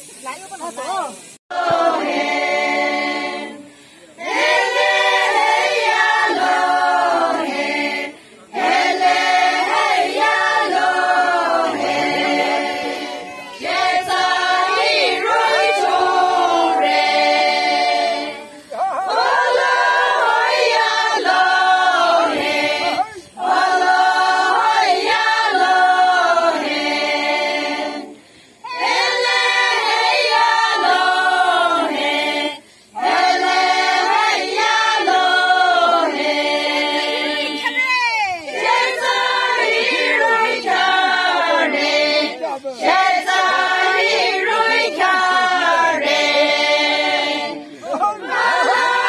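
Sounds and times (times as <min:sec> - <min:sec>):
women singing unaccompanied: 0:00.0 - 0:49.0.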